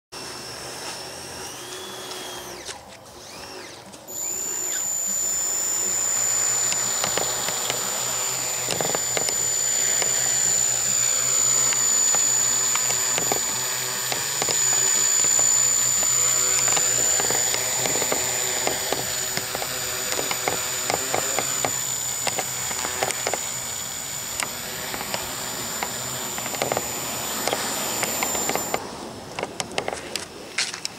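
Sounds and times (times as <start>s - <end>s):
quadcopter motors whining: 0.2s - 30.0s.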